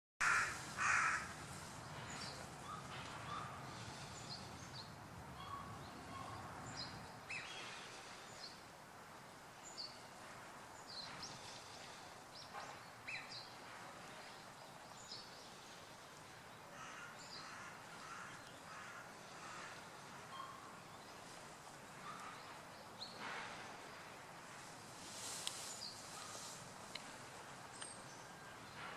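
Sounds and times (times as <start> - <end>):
birds chirping: 0.2 - 8.7, 9.6 - 28.9
faint background hiss: 0.2 - 28.9.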